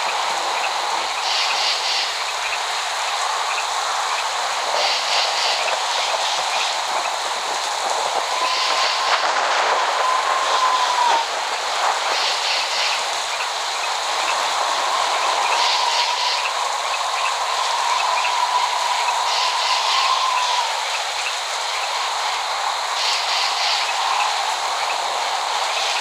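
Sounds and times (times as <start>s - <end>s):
heavy rain hissing: 0.0s - 26.0s.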